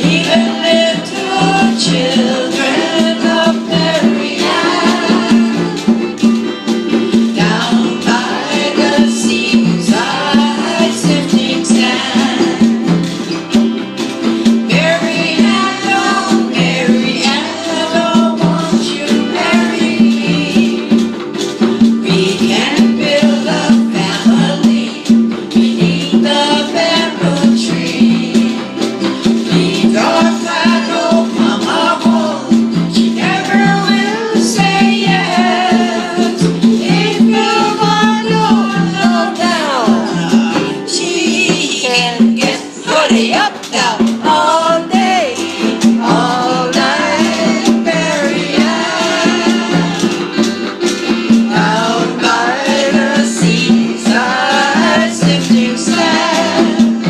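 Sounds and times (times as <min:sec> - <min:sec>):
person singing: 0:00.0 - 0:06.4, 0:07.1 - 0:13.5, 0:14.4 - 0:57.0
conga drums: 0:00.0 - 0:57.0
live band playing calypso: 0:00.0 - 0:57.0.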